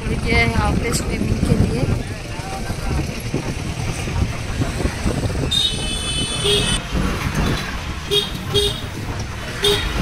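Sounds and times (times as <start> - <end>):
motorbike engine and wind rumble: 0.0 - 10.0.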